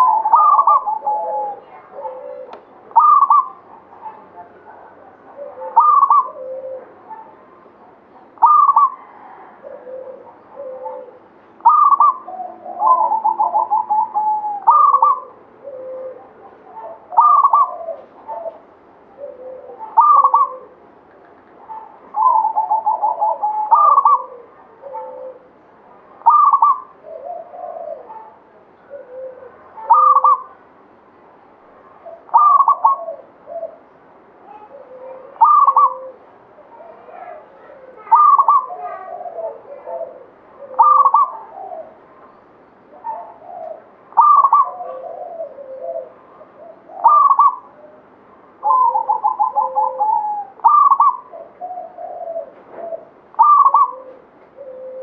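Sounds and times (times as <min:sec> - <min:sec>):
dove cooing: 0:00.0 - 0:30.7, 0:31.8 - 0:55.0.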